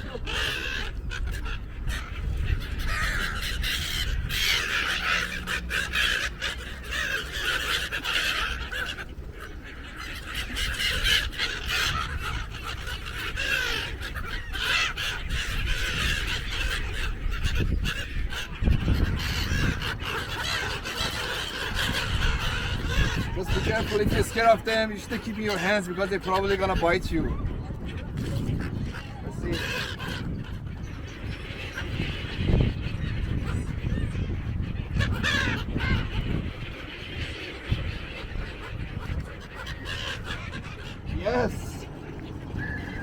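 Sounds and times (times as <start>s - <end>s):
seagulls calling: 0.0s - 43.0s.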